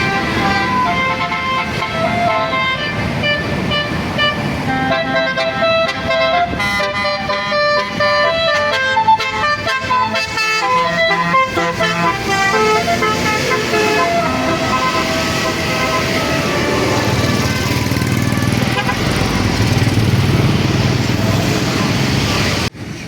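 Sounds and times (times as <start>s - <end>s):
bus horn playing a melody: 0.0s - 20.3s.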